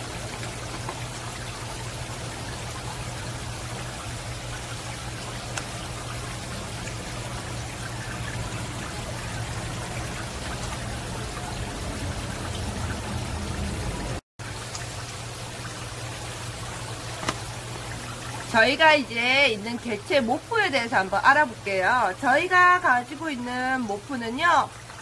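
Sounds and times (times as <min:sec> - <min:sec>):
aquarium water bubbling and trickling: 0:00.0 - 0:25.0
low steady hum: 0:00.0 - 0:25.0.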